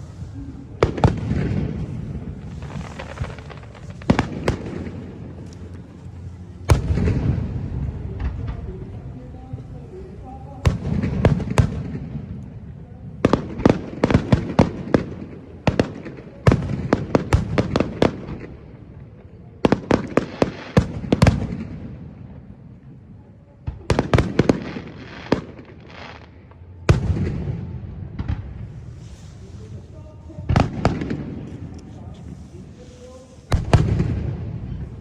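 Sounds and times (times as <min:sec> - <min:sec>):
fireworks bangs: 0:00.0 - 0:09.6, 0:10.5 - 0:22.7, 0:23.6 - 0:35.0.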